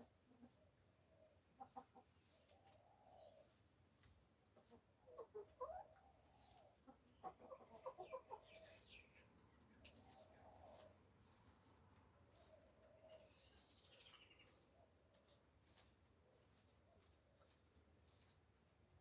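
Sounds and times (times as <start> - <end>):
hens clucking softly: 0.0 - 19.0.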